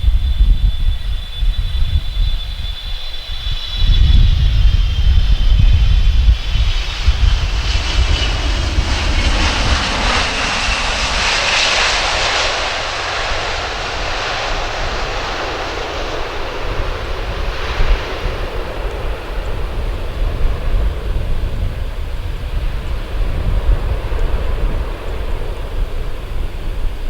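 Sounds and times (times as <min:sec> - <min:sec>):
jet engine roar with whine: 0:00.0 - 0:27.0.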